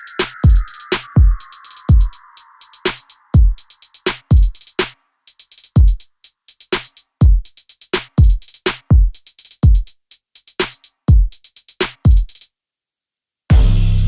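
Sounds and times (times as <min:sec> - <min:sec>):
crisp hi-hat ticks: 0:00.0 - 0:12.5
electronic drum-machine beat: 0:00.0 - 0:12.5, 0:13.5 - 0:14.0.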